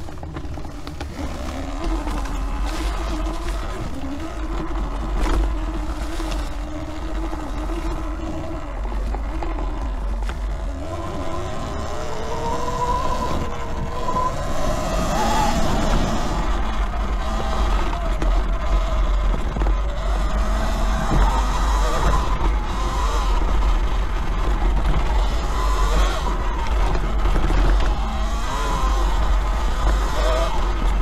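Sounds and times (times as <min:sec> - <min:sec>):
electric motor whining: 0:00.0 - 0:31.0
wind rumble on microphone: 0:00.0 - 0:31.0.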